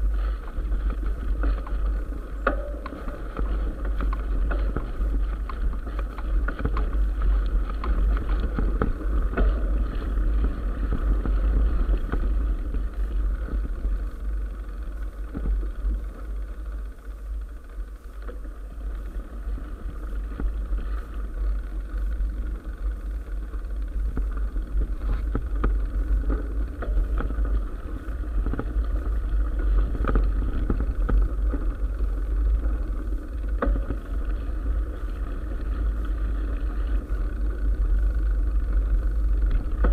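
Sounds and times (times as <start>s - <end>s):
bike clicks and rattles: 0.0s - 39.9s.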